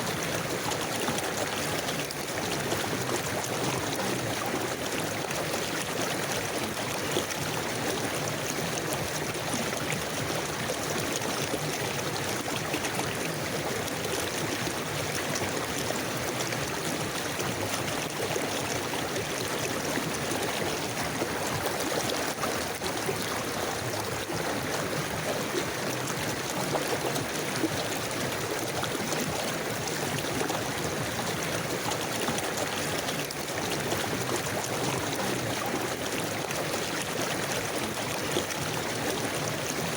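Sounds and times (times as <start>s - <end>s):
river flowing: 0.0s - 39.9s
water gurgling and trickling: 0.0s - 39.9s.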